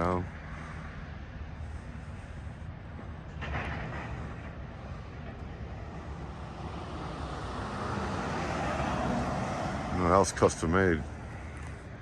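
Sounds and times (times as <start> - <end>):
heavy machinery engine rumble: 0.0 - 12.0.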